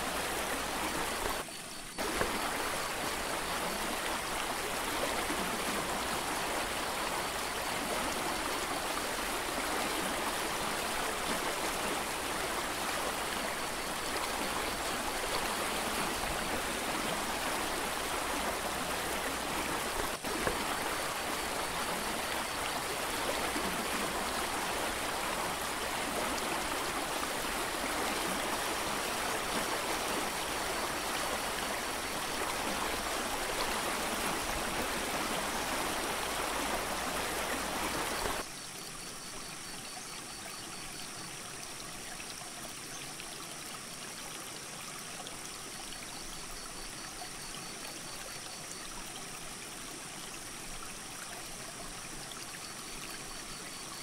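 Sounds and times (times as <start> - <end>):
rushing creek water: 0.0 - 54.0.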